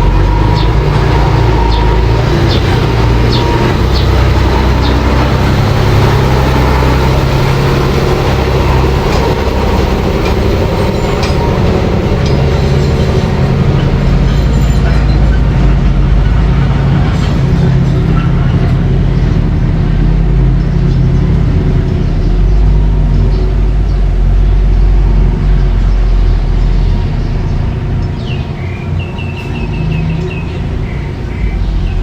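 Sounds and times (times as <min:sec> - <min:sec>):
bulldozer engine running: 0:00.0 - 0:32.0.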